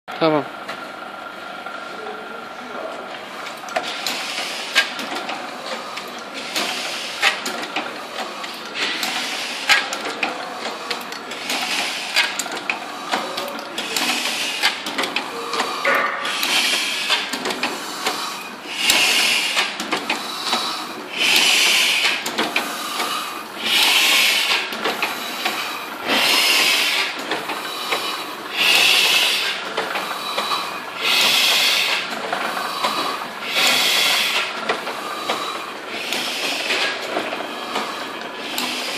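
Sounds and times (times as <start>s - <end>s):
printing press clatter: 2.7s - 38.9s.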